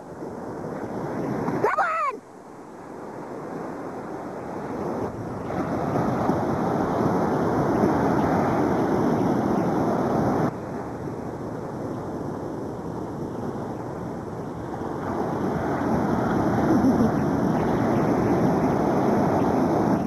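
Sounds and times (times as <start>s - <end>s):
wind buffeting microphone: 3.0s - 20.0s
ocean surf breaking: 3.1s - 20.0s.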